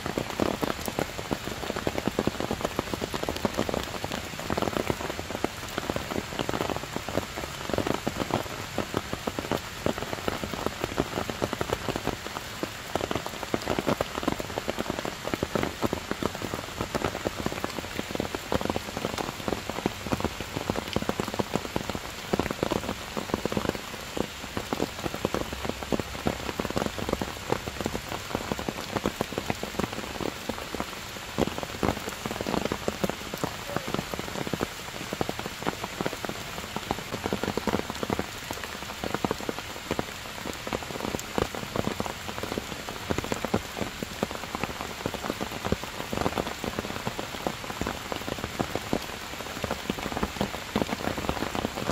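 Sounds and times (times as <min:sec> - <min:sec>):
heavy rain on leaves and stone: 0:00.0 - 0:51.9.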